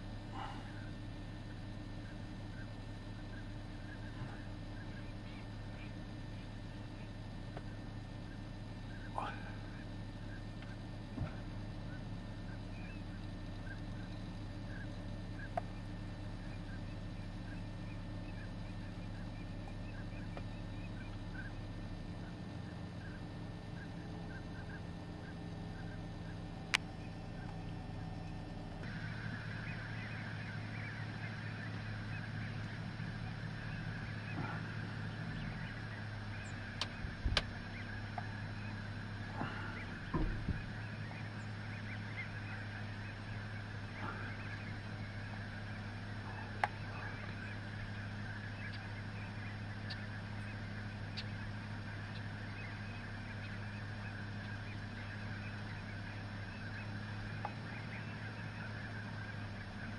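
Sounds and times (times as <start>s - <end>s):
flock of ducks calling: 0.0s - 59.9s
low steady hum: 0.0s - 59.9s.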